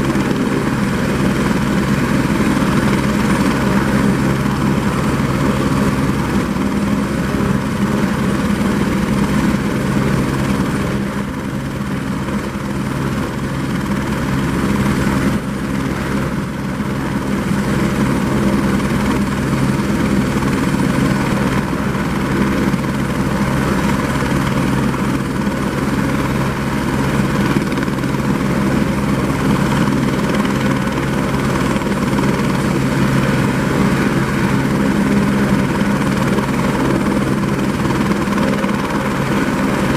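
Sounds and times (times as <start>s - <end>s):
helicopter rotor chop: 0.0s - 39.9s
helicopter turbine whining: 0.0s - 39.9s.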